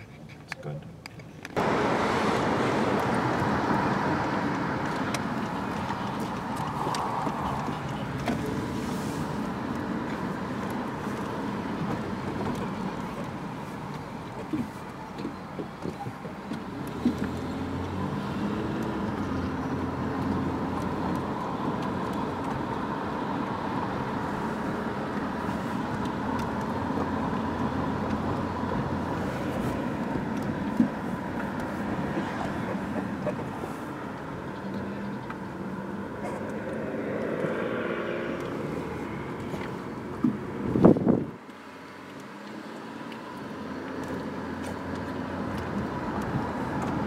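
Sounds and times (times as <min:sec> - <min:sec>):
car engine hum: 0:00.0 - 0:47.0.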